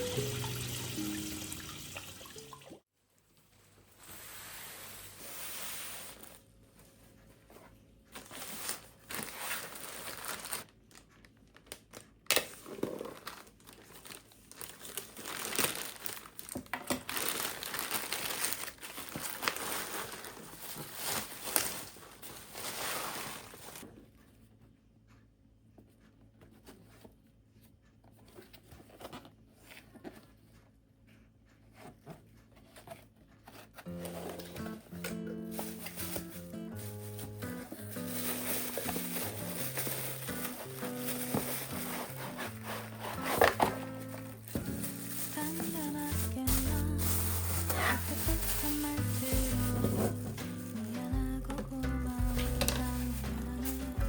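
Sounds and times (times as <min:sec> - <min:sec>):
crinkling and rustling: 0:03.2 - 0:54.0.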